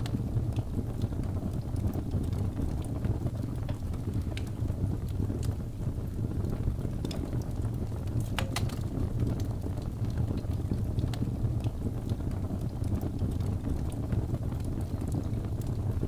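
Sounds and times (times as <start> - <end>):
fire crackles and pops: 0.0 - 16.0
low rumble of flames: 0.0 - 16.0.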